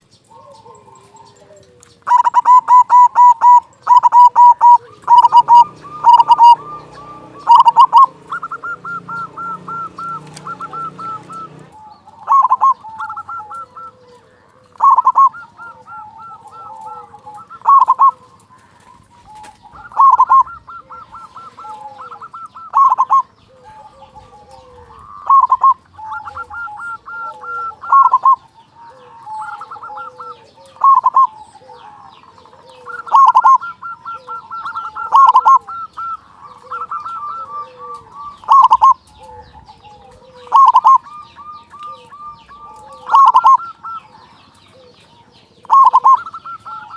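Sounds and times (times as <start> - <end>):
dove cooing loudly: 0.0 - 46.9
soft trilling dove coos: 0.0 - 46.9.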